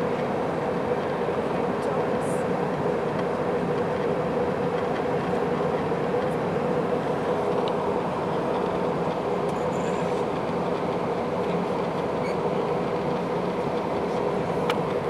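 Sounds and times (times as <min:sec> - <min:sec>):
aircraft engines droning: 0:00.0 - 0:15.0
constant hum: 0:00.0 - 0:15.0.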